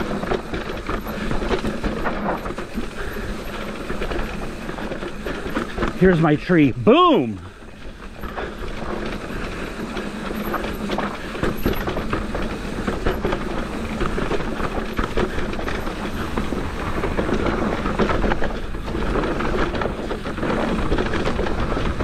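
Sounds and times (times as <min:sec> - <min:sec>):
bike rattling and clattering: 0:00.0 - 0:22.0
bike tyres rumbling on dirt: 0:00.0 - 0:22.0.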